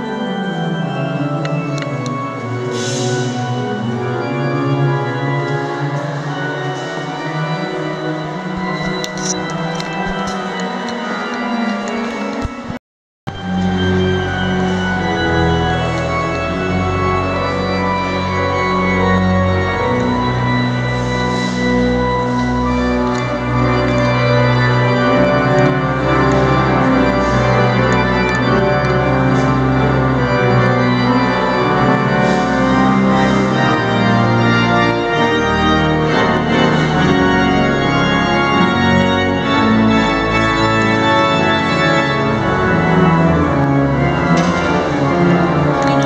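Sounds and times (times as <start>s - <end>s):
pipe organ playing chords: 0.0s - 46.0s.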